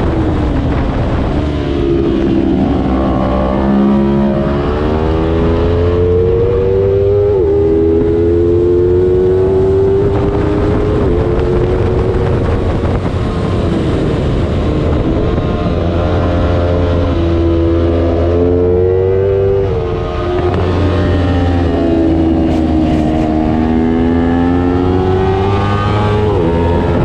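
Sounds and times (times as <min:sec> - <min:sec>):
motorcycle engine at high revs: 0:00.0 - 0:27.0
steady rushing noise: 0:00.0 - 0:27.0.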